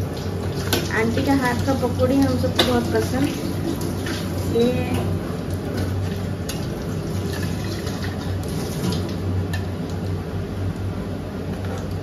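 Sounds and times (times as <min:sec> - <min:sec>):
food deep-frying in hot oil: 0:00.0 - 0:10.3.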